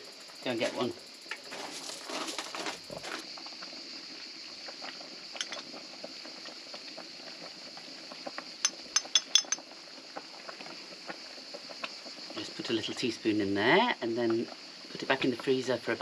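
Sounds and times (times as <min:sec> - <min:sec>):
jam bubbling at a boil: 0:00.0 - 0:16.0.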